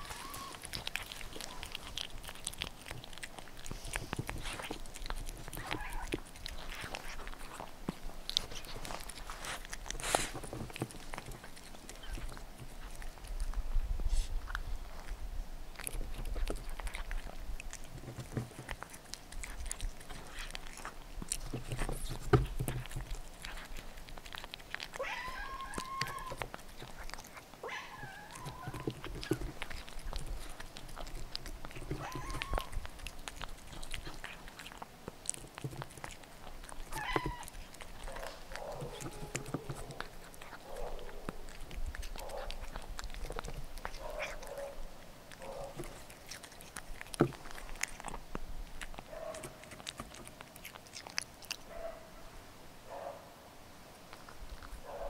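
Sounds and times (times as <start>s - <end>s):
cat chewing and licking: 0.0s - 52.1s, 54.0s - 55.0s.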